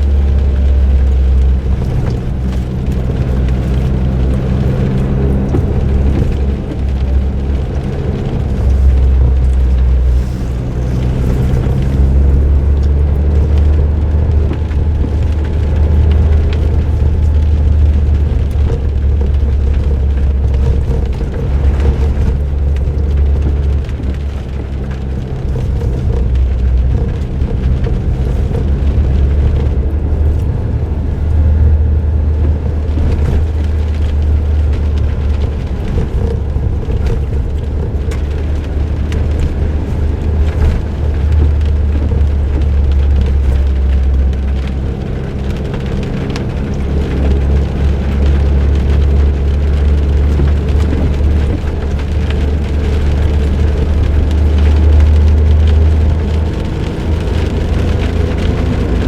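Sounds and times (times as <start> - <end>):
car engine drone: 0.0 - 59.0
tyre and road noise: 0.0 - 59.0.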